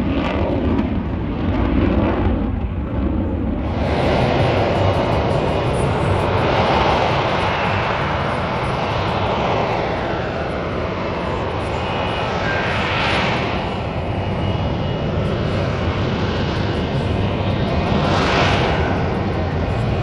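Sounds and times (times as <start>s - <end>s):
jet roar: 0.0s - 20.0s.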